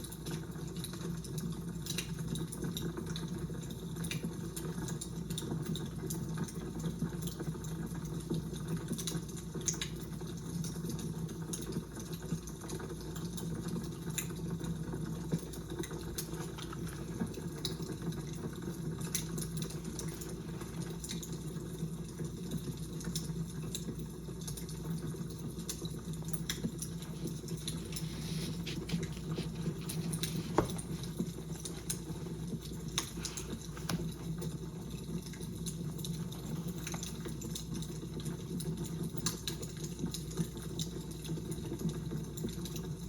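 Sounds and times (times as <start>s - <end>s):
fire crackling and popping: 0.0s - 43.0s.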